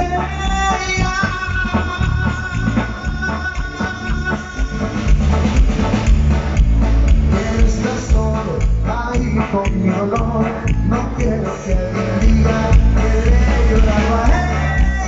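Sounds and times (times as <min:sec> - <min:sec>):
heavy bass: 0:00.0 - 0:15.0
live band playing dance music: 0:00.0 - 0:15.0.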